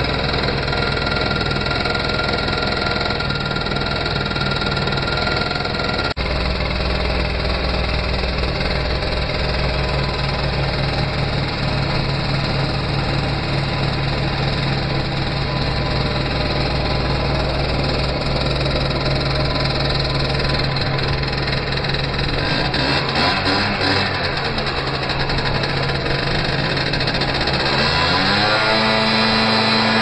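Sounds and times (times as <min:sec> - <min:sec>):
scooter engine idling: 0:00.0 - 0:30.0.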